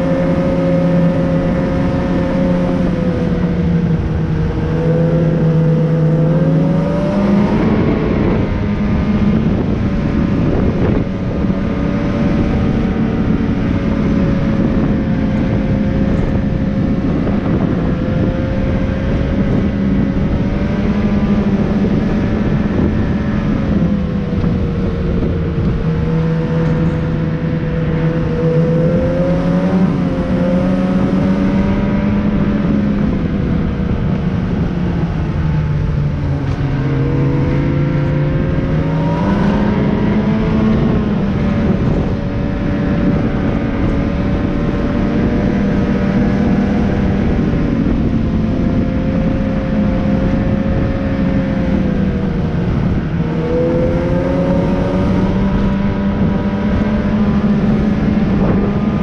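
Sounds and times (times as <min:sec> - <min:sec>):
heavy travel noise: 0:00.0 - 0:59.0
vehicle engine running: 0:00.0 - 0:59.0.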